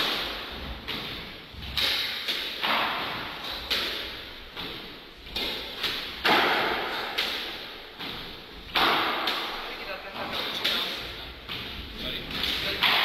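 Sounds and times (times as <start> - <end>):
squash ball smacks: 0.0 - 10.9, 12.3 - 13.0.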